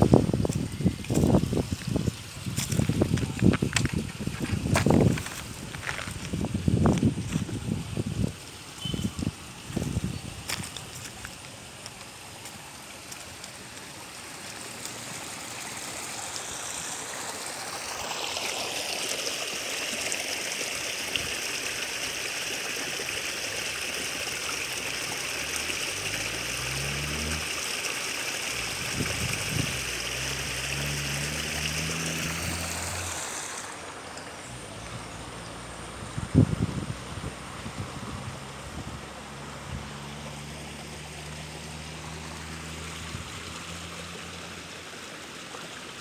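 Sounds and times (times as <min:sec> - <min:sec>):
water trickling in a channel: 0:00.0 - 0:46.0.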